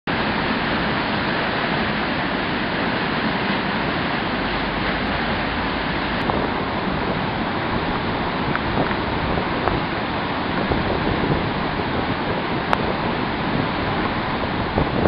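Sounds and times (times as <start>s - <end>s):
flooded river rushing: 0.1s - 15.0s.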